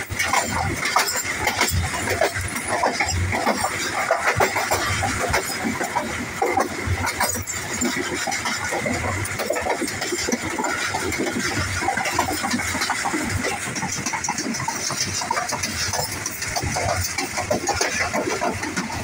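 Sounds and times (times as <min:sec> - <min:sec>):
train coach rattling and knocking: 0:00.0 - 0:19.0
train wheels clattering on rails: 0:00.0 - 0:19.0.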